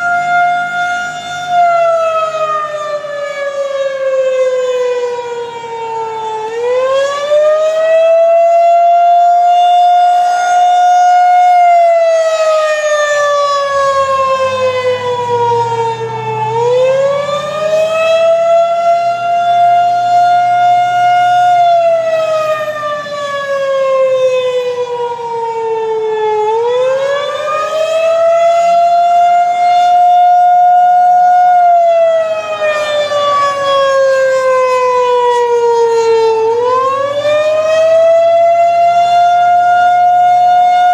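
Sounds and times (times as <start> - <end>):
rising and falling warning siren: 0.0 - 40.9.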